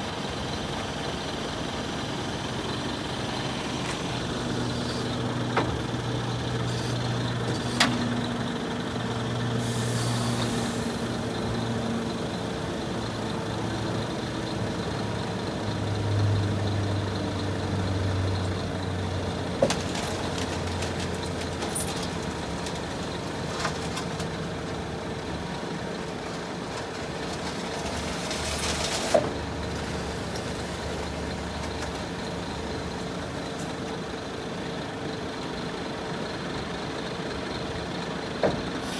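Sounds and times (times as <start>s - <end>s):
truck engine hum: 0.0s - 38.9s.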